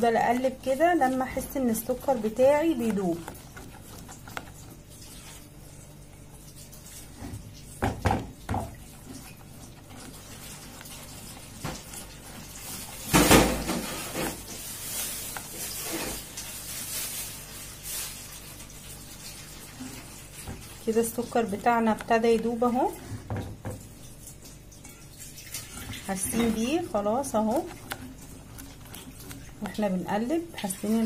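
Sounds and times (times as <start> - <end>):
spoon stirring in a pot: 0.0 - 16.6, 19.4 - 23.9, 24.6 - 31.0.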